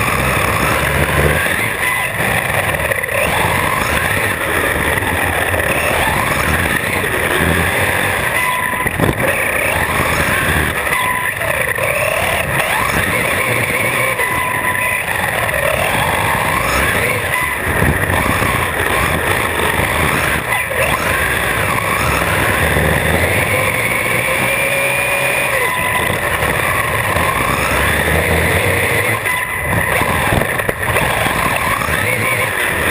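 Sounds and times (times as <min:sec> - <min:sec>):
electric motor whining: 0:00.0 - 0:32.9
tyre and wind noise: 0:00.0 - 0:32.9.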